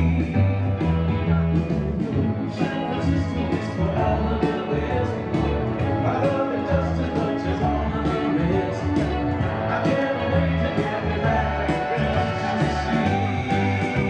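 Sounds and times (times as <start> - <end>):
rock and roll music with singing: 0.0 - 14.0.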